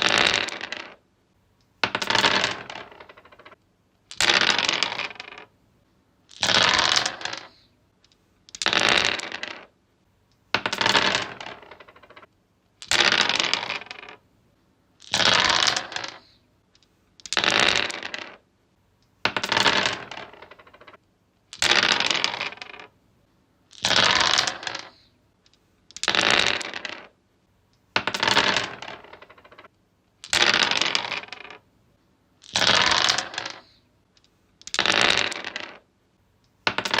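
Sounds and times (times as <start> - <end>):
dice rolling on wood: 0.0 - 1.0, 1.8 - 5.6, 6.3 - 9.8, 10.4 - 14.2, 15.0 - 23.0, 23.7 - 27.2, 27.8 - 31.7, 32.4 - 35.9, 36.5 - 37.0.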